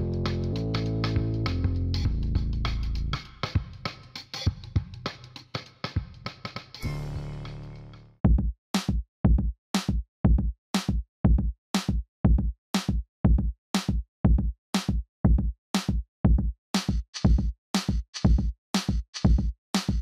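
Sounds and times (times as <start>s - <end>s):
music with steady beat: 0.0s - 20.0s.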